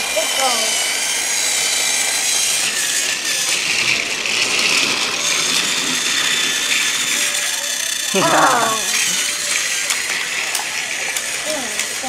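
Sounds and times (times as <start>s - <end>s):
wheels clattering on plastic track: 0.0s - 8.1s, 9.2s - 12.0s
toy train motor whirring: 0.0s - 12.0s.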